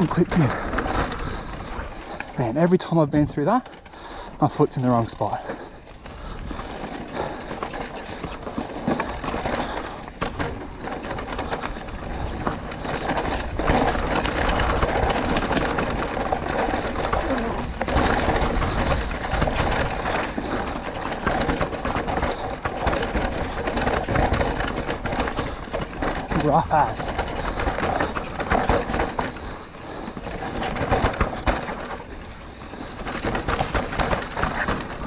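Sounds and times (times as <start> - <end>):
bike frame and chain rattling: 0.0 - 2.8, 3.4 - 35.0
tyres rumbling over dirt and rocks: 0.0 - 35.0.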